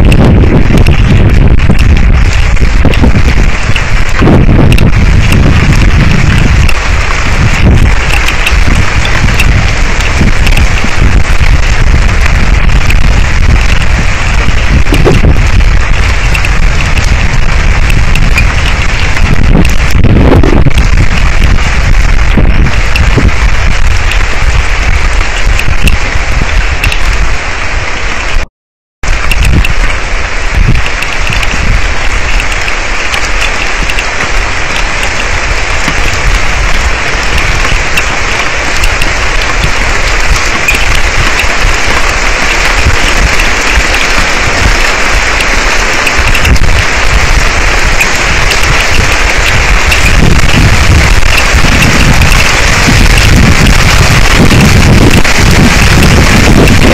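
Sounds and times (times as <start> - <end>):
low rumble: 0.0 - 28.0, 29.0 - 56.9
heavy rain pelting down: 0.0 - 56.9
wind buffeting microphone: 0.0 - 56.9.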